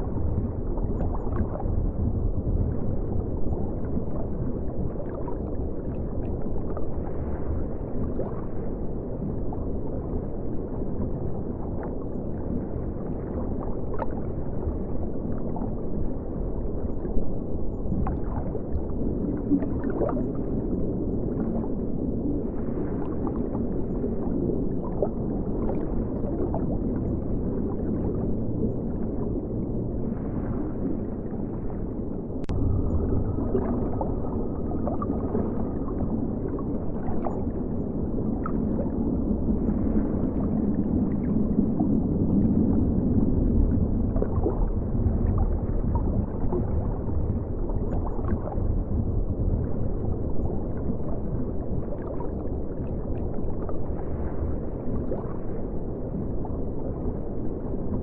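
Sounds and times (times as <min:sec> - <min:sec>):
muffled underwater river rushing: 0:00.0 - 0:58.0.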